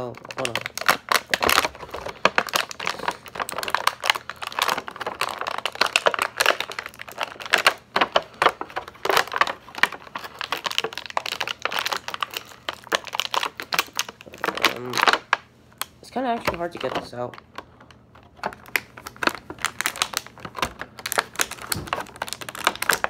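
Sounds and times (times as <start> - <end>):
plastic blister tray crinkling: 0.0 - 23.0.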